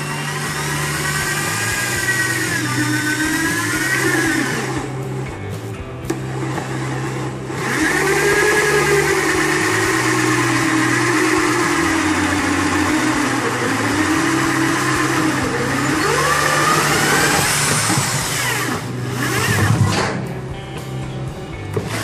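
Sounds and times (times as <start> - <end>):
drill cutting through plastic: 0.0 - 5.4, 6.1 - 20.2, 21.7 - 22.0.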